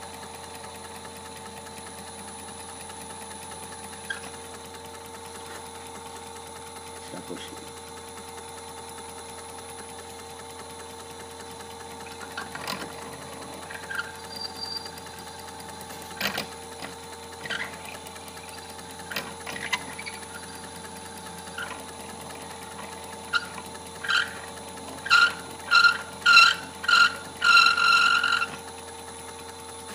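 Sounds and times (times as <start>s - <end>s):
lathe motor humming: 0.0s - 29.9s.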